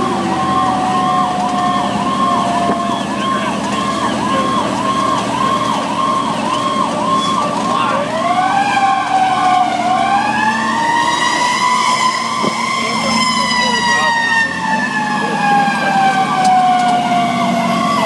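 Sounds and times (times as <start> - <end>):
diesel engine noise: 0.0 - 18.0
electronic siren yelp: 0.0 - 18.0
siren rising wail: 0.0 - 18.0.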